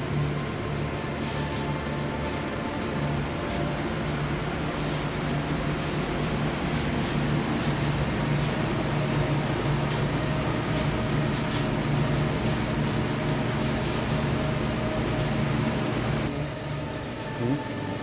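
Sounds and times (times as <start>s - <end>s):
kitchen machinery humming: 0.0s - 18.0s.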